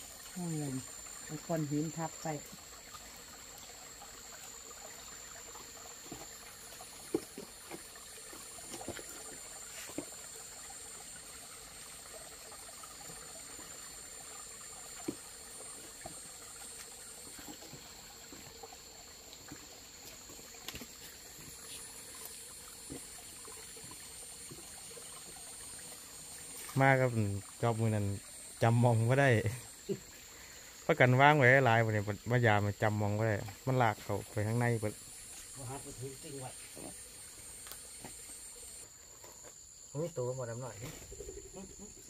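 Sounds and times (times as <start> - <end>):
water trickling: 0.0 - 38.9
high-pitched insect trill: 0.0 - 42.0.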